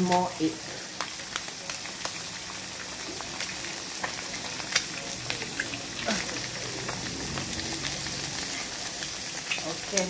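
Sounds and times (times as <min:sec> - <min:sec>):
eggs sizzling with crackles and pops: 0:00.0 - 0:10.0.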